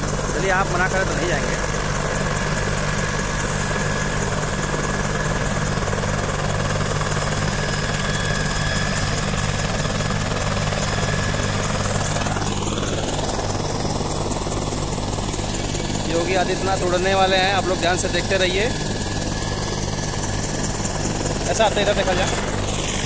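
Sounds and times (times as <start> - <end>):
helicopter turbine and rotor drone: 0.0 - 23.0.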